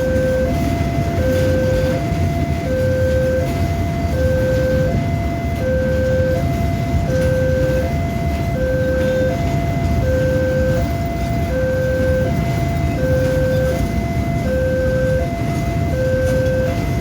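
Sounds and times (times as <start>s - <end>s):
electronic two-tone siren: 0.0s - 17.0s.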